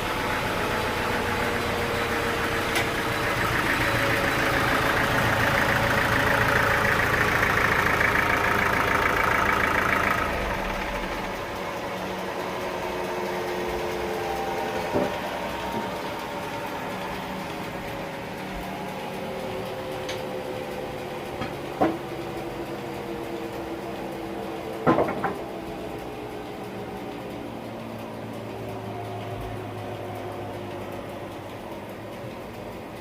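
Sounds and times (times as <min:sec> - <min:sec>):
sawmill machinery humming: 0:00.0 - 0:33.0.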